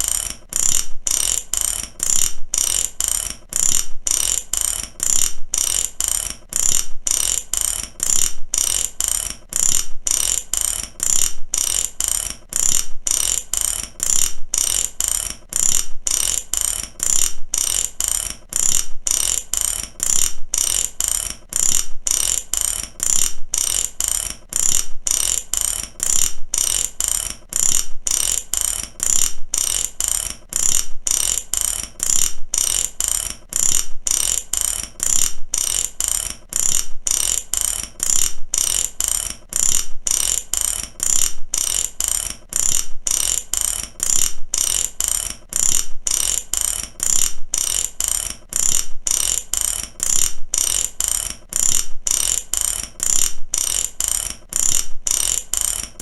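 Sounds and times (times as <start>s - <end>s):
ratchet wrench clicking: 0.0s - 56.0s.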